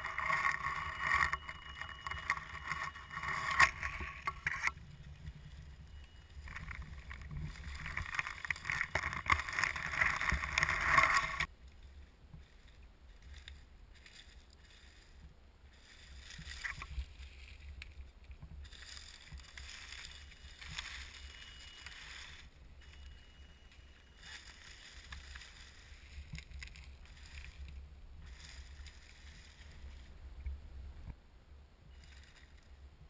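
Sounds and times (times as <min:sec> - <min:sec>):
leaves crackling: 0:00.0 - 0:30.4.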